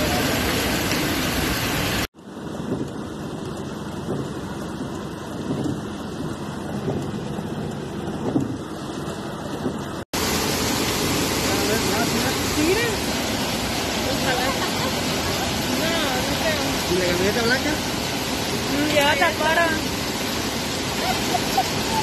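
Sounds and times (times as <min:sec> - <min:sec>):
rain pattering on a car: 0:00.0 - 0:22.0
van rushing through floodwater: 0:00.0 - 0:22.0.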